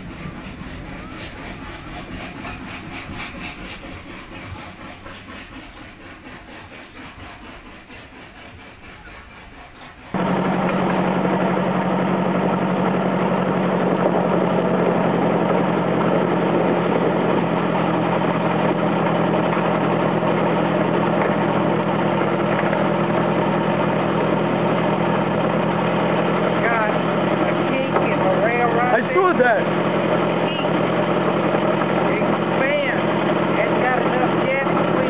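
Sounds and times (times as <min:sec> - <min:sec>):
miniature train engine running: 0:00.0 - 0:35.0.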